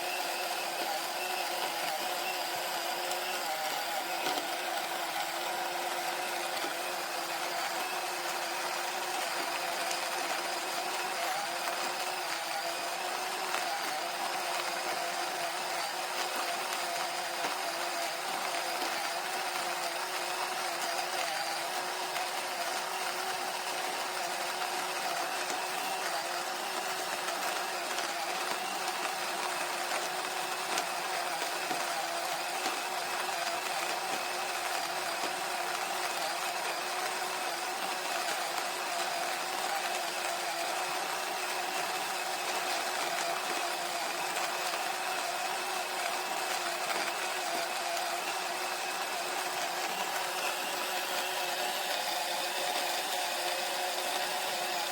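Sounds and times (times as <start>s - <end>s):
electric coffee grinder running: 0.0s - 54.9s.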